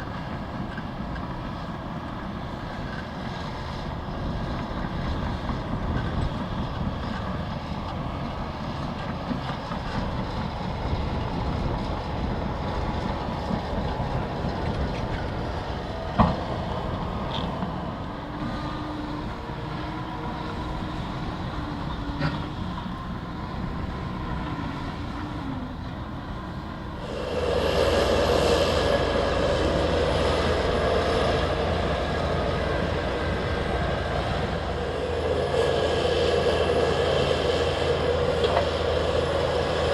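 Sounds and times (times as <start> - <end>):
bulldozer engine and tracks: 0.0 - 39.9.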